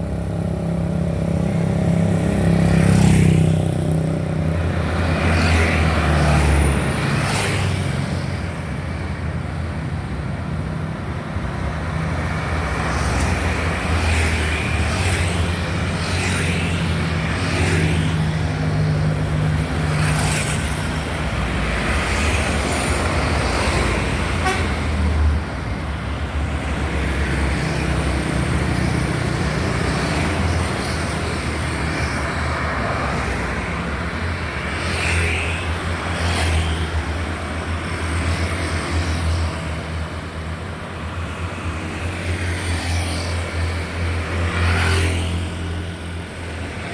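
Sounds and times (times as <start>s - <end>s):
traffic passing: 0.0s - 46.9s.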